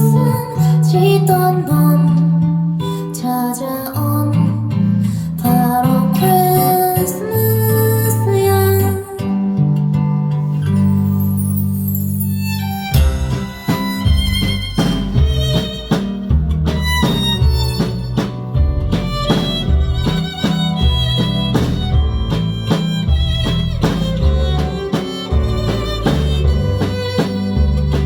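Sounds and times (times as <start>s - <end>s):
live pop band playing: 0.0s - 4.4s, 5.0s - 9.8s, 10.5s - 28.0s.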